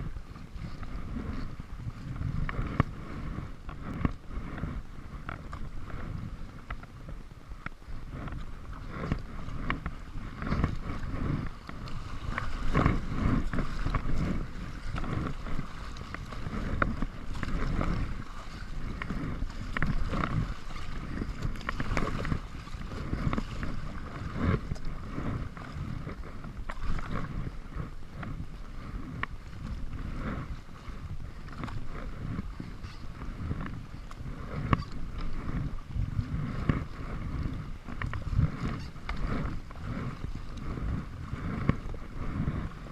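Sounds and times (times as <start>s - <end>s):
paddle splashing in water: 0.0s - 42.9s
wind rumbling on microphone: 0.0s - 42.9s.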